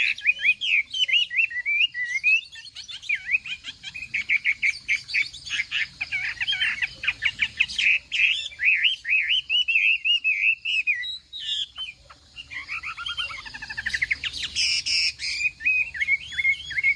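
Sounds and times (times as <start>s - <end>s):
bird singing whistled phrases: 0.0s - 16.9s.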